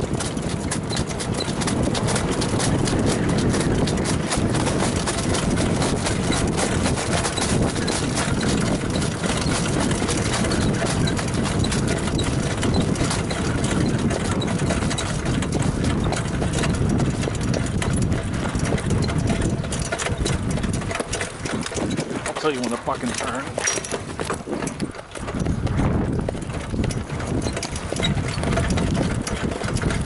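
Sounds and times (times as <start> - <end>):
continuous low rumble: 0.0 - 30.0
trotting horse hoofbeats: 0.0 - 30.0.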